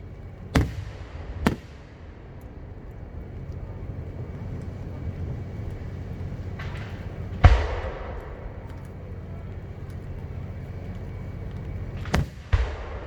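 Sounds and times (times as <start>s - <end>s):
firework shells booming: 0.0s - 13.0s
steady low rumble: 0.0s - 13.0s.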